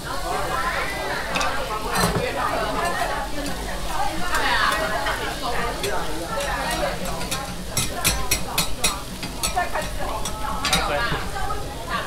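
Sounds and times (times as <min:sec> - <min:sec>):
frying sizzle: 0:00.0 - 0:12.0.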